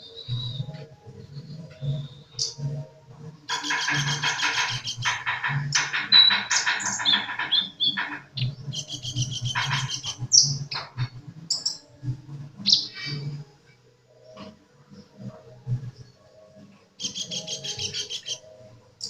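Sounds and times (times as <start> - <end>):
bird singing buzzy trills: 0.0 - 19.0.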